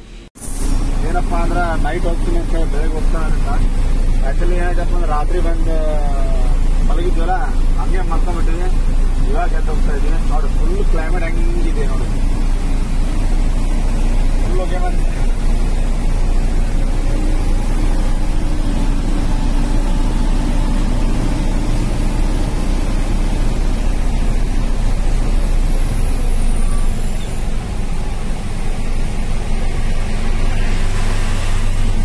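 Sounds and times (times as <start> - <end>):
road and wind noise: 0.0 - 32.0
truck diesel engine running: 0.0 - 32.0.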